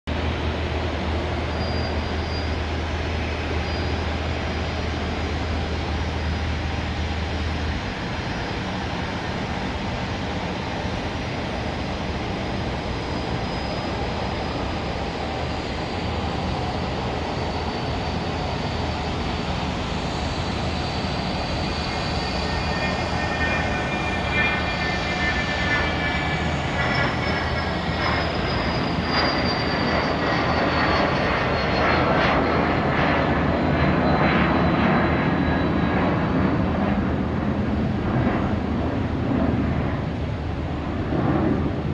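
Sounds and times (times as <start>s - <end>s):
jet engine rush with fan whine: 0.1s - 41.9s.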